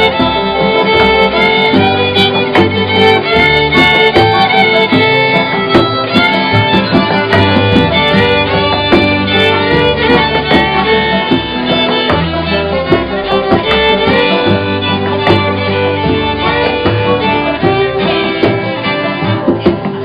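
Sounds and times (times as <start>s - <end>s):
bass line: 0.0s - 20.0s
fiddle playing fast melody: 0.0s - 20.0s
strummed guitar: 0.0s - 20.0s.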